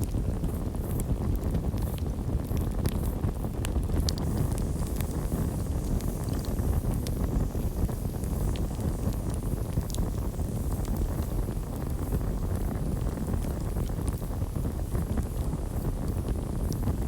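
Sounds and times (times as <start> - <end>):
campfire flames rumbling: 0.0 - 17.0
wood crackling and popping: 0.0 - 17.0.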